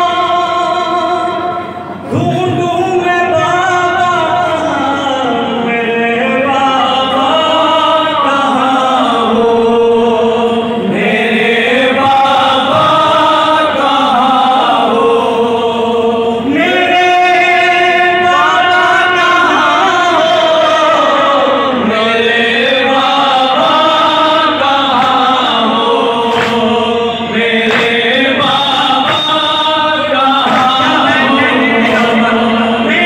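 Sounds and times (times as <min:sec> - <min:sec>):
man singing mournful lament: 0:00.0 - 0:33.0
men singing along: 0:00.0 - 0:33.0.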